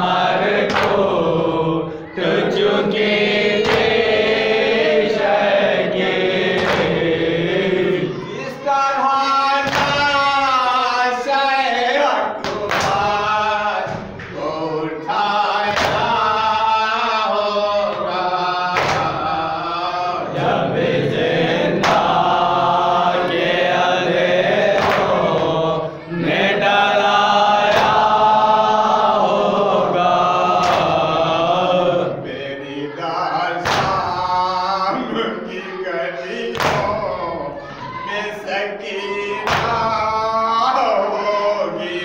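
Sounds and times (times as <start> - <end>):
men chanting together: 0.0 - 42.0.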